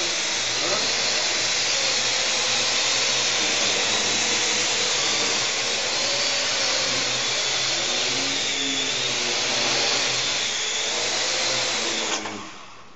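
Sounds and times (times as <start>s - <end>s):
quadcopter propellers whirring: 0.0s - 12.7s.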